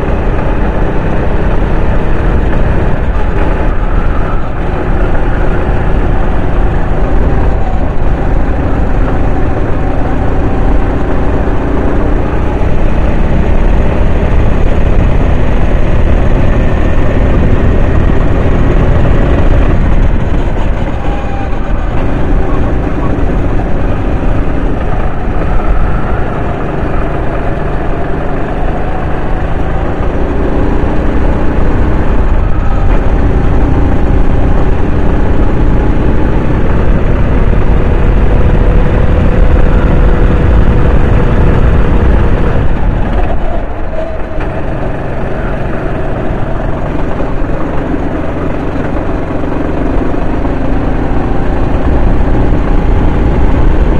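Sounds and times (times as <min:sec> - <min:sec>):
racing kart engine: 0:00.0 - 0:53.9.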